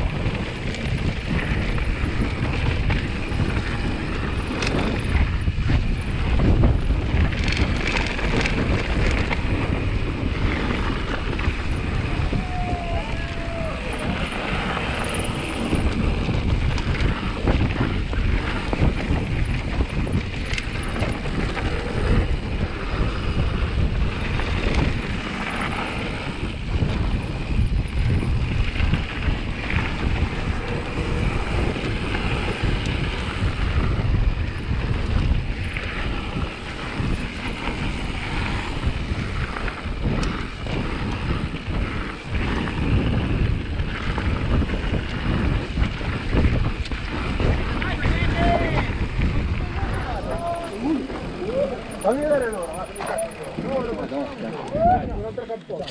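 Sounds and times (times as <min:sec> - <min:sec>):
tyres rolling over loose stones: 0:00.0 - 0:55.9
wind buffeting microphone: 0:00.0 - 0:55.9.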